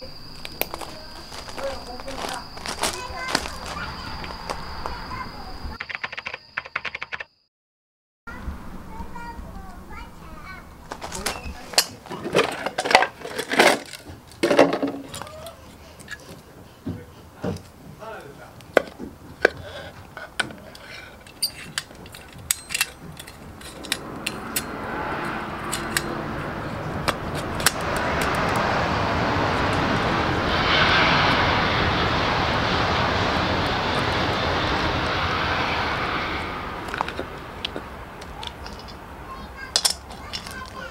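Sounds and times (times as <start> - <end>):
passing train rumble: 0.0 - 5.8, 8.3 - 15.4, 16.0 - 40.9.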